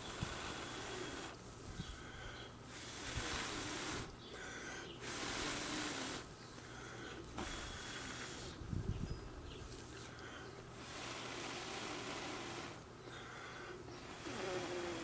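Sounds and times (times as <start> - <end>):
person blowing breaths: 0.0 - 8.6, 10.0 - 15.0.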